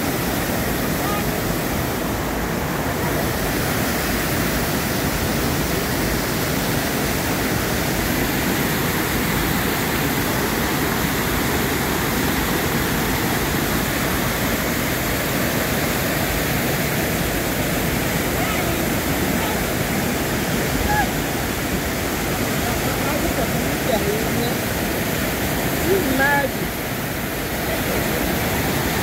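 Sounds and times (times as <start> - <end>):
water cascading over weir: 0.0 - 29.0.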